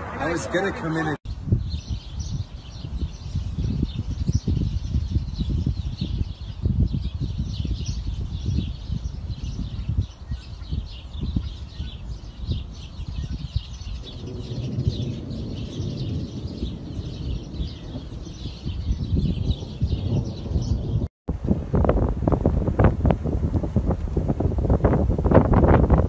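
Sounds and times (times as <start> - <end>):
birds chirping rapidly: 0.0 - 21.1
gusty wind buffeting microphone: 0.0 - 26.0.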